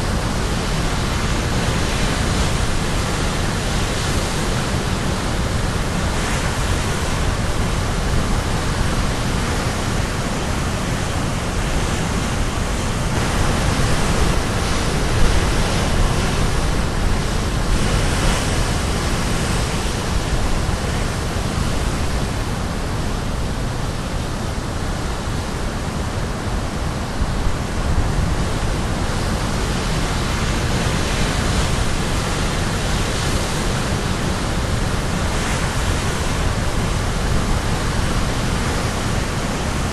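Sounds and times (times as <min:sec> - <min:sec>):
sea surf breaking: 0:00.0 - 0:23.8, 0:27.1 - 0:39.9
wind on microphone: 0:00.0 - 0:39.9.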